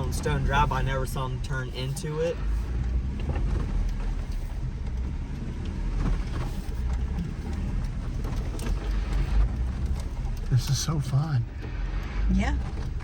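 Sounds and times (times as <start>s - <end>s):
engine and drivetrain rumble: 0.0s - 13.0s
road noise: 0.0s - 13.0s
faint knocks and rattles: 2.5s - 13.0s.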